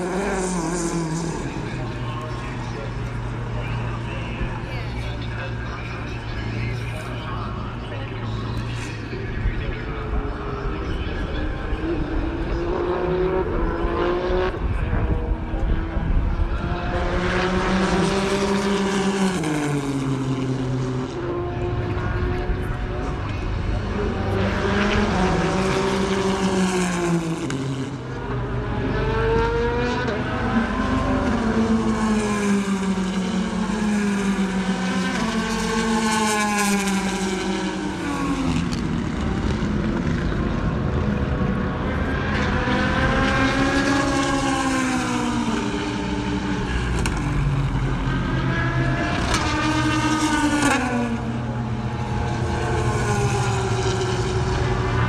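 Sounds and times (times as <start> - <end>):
race cars passing at speed: 0.0 - 55.0.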